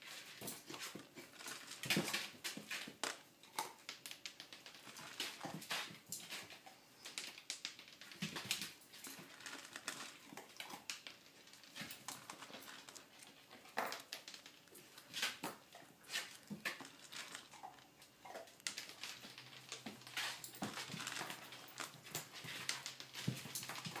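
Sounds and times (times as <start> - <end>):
puppy crunching food: 0.2 - 24.0.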